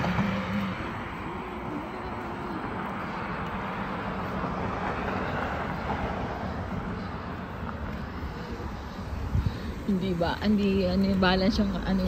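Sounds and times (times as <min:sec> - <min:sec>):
road traffic rushing: 0:00.0 - 0:12.0
vehicle passing: 0:00.0 - 0:12.0.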